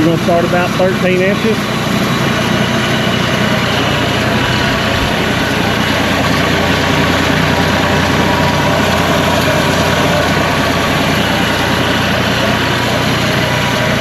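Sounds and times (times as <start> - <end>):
sawmill engine idling: 0.0 - 14.0.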